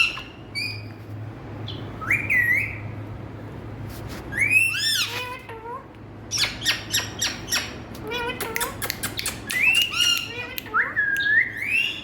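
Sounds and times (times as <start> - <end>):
parrot squawking and screeching: 0.0 - 1.0, 1.7 - 2.9, 4.3 - 12.0.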